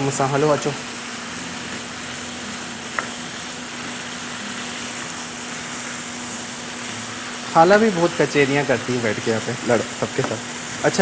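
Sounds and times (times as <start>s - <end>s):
chickpeas sizzling in a frying pan: 0.0s - 11.0s
spatula stirring in a pan: 0.9s - 11.0s.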